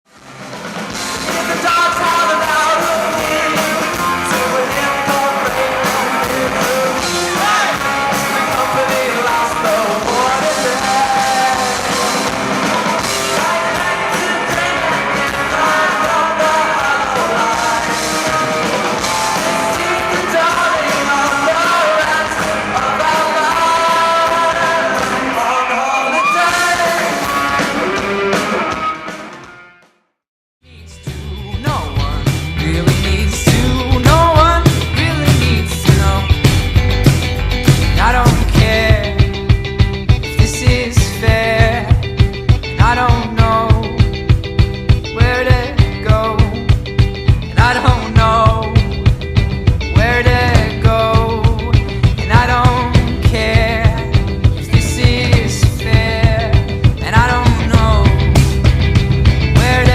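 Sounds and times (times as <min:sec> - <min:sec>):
rock song with sung vocal: 0:00.2 - 0:29.8, 0:30.6 - 0:59.9.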